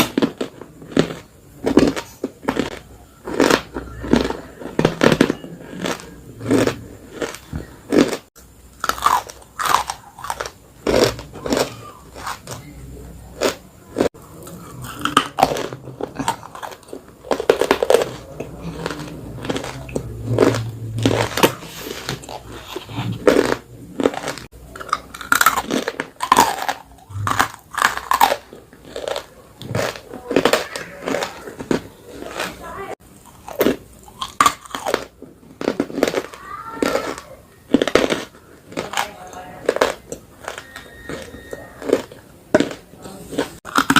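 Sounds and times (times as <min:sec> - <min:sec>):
crisp crunches of chewing clay: 0:00.0 - 0:43.9
wet chewing: 0:00.0 - 0:43.9.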